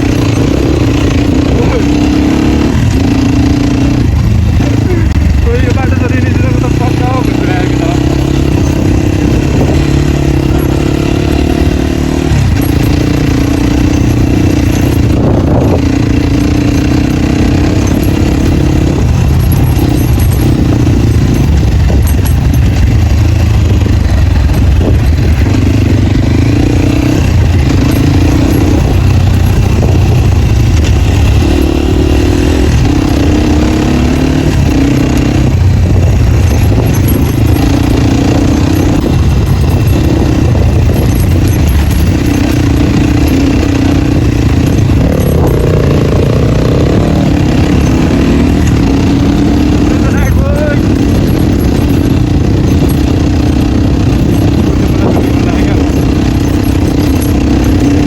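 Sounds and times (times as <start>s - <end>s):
loud dirt bike engine: 0.0s - 58.0s.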